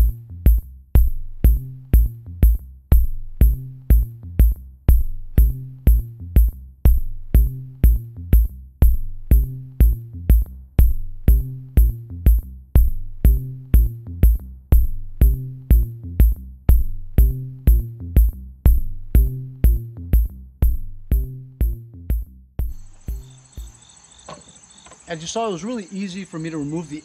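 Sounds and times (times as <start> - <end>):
low bass line: 0.0 - 23.2
drum machine beat: 0.0 - 23.8.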